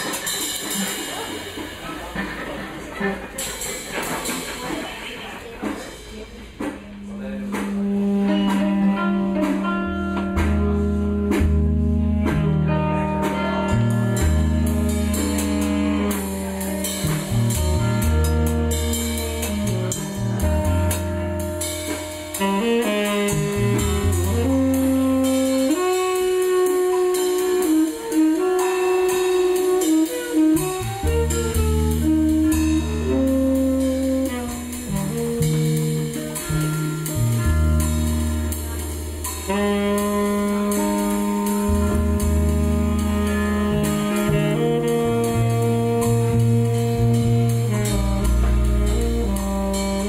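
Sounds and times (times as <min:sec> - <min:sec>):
drum kit: 0:00.0 - 0:50.0
saxophone: 0:07.5 - 0:50.0.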